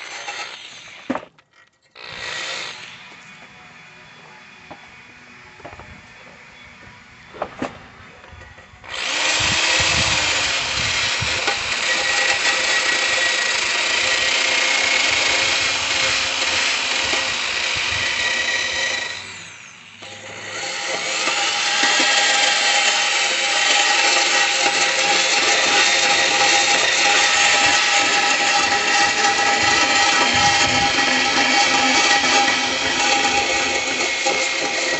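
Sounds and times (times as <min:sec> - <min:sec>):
power wire brush scrubbing steel: 0:00.0 - 0:01.1, 0:02.0 - 0:03.7, 0:08.8 - 0:34.9.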